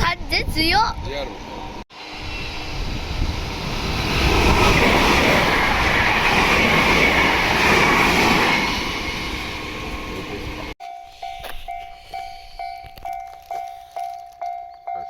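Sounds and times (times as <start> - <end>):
train wheels on rails: 2.0 - 15.0.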